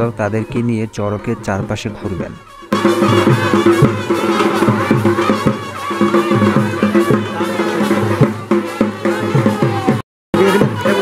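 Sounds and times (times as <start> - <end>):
rapid irregular drum beats: 1.4 - 11.0.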